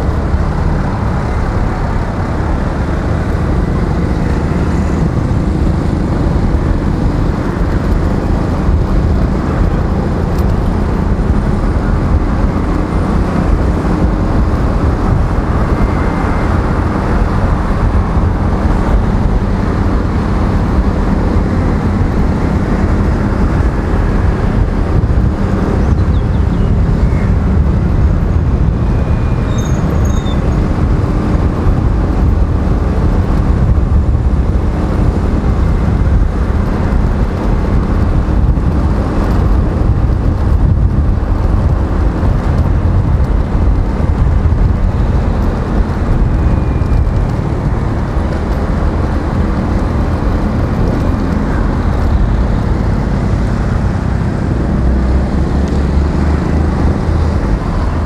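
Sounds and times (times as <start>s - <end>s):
surrounding traffic: 0.0s - 58.0s
wind on microphone: 0.0s - 58.0s.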